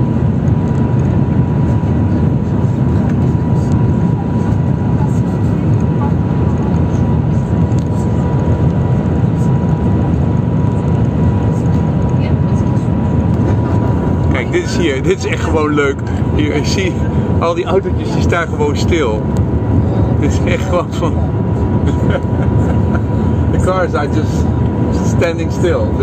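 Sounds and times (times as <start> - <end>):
high whine: 0.0 - 26.0.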